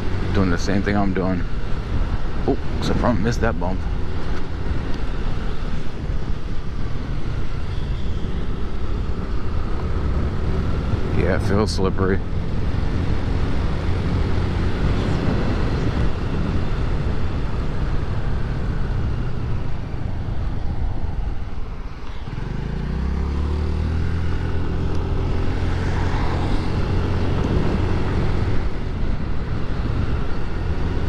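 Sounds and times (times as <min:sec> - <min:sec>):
motorcycle engine: 0:00.0 - 0:31.0
wind and road noise: 0:00.0 - 0:31.0.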